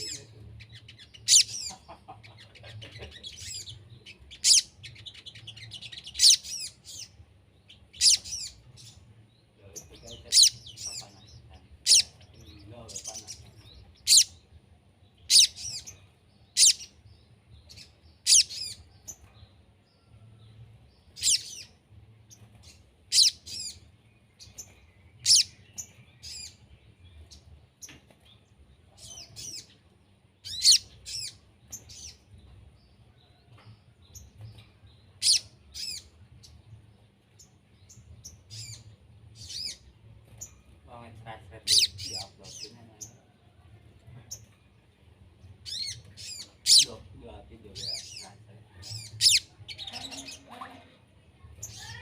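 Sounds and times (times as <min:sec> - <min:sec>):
birds chirping sharply: 0:00.0 - 0:52.0.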